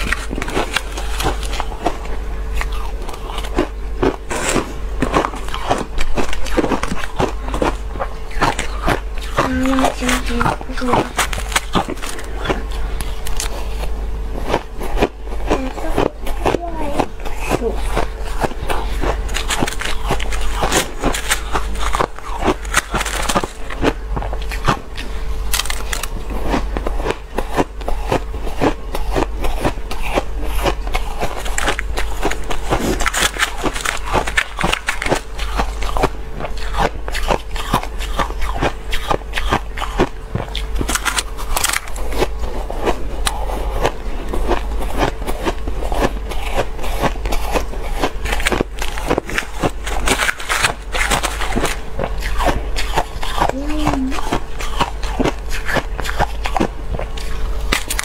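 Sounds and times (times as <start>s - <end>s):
chewing crunchy ice: 0.0s - 58.0s
faint steady hum: 0.0s - 58.0s.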